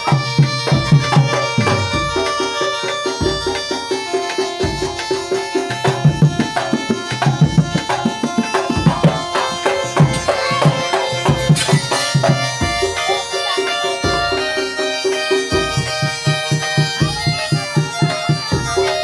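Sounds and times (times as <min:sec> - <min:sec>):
hand drum beats: 0:00.0 - 0:19.0
sustained melodic tones: 0:00.0 - 0:19.0.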